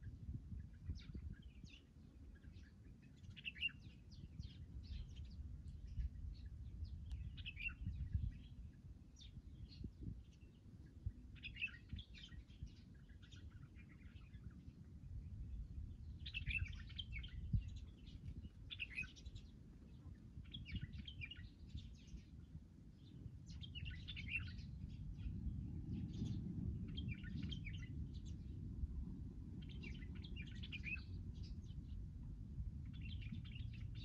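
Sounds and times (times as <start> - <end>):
small birds chirping: 0.0 - 28.7, 29.5 - 34.0
low steady rumble: 0.0 - 34.0.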